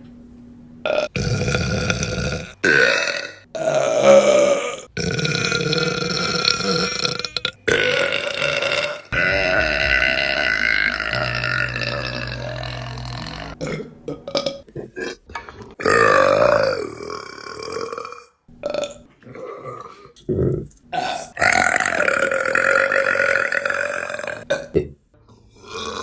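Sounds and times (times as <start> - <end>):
woman belching: 0.9 - 24.8.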